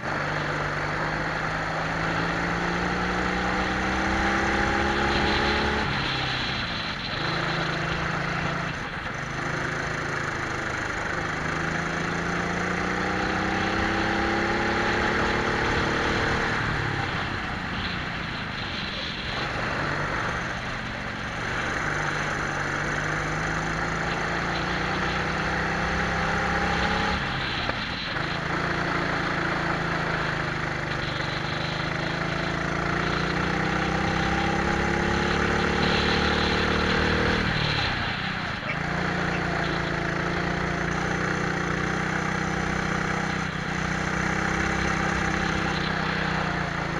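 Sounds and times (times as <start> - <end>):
kart engines revving: 0.0 - 46.9.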